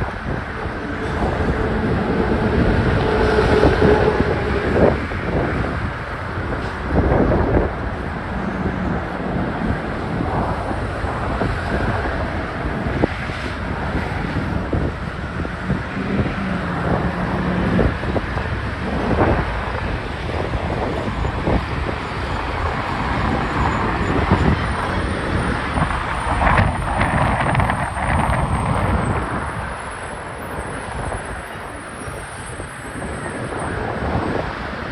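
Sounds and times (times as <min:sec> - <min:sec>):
passing vehicles rumbling: 0:00.0 - 0:34.9
wind buffeting microphone: 0:00.0 - 0:34.9.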